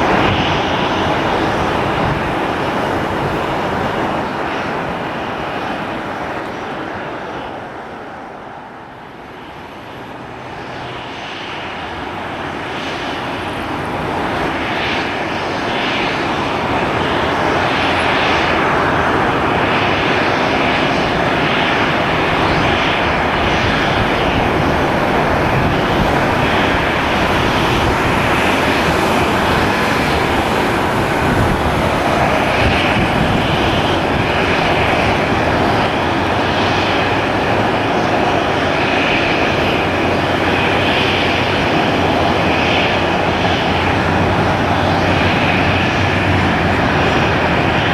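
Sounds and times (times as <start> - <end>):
airliner engines roaring: 0.0 - 47.9.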